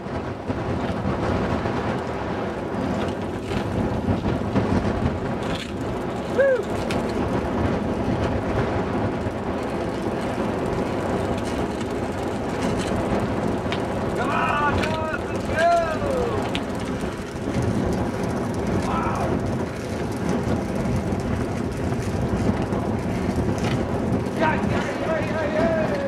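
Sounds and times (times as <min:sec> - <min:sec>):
wheel and road noise: 0:00.0 - 0:26.0
wind rumble on microphone: 0:00.0 - 0:26.0.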